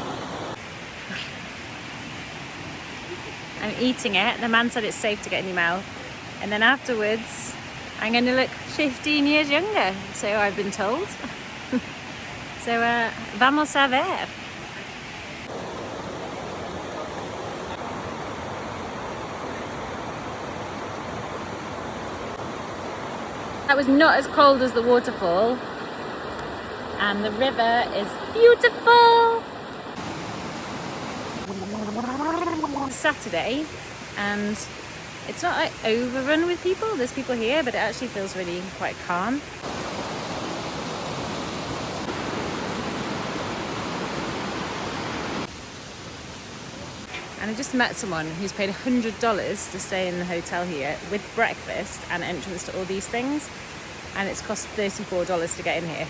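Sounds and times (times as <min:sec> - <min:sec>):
river water rushing: 0:00.0 - 0:08.9, 0:14.3 - 0:38.3, 0:39.0 - 0:48.0, 0:51.0 - 0:56.0.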